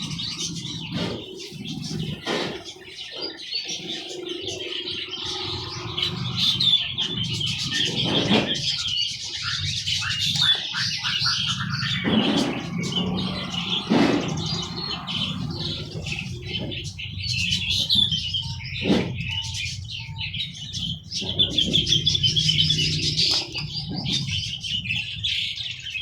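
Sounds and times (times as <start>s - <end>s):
caged songbirds chirping: 0.0s - 26.0s.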